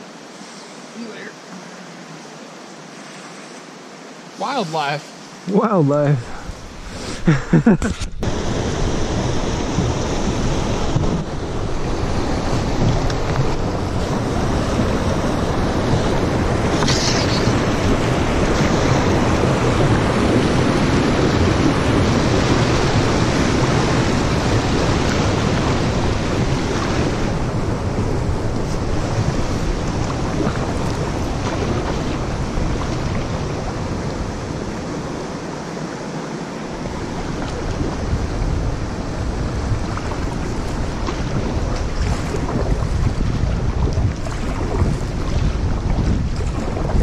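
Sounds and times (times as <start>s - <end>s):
wind buffeting microphone: 6.2s - 47.0s.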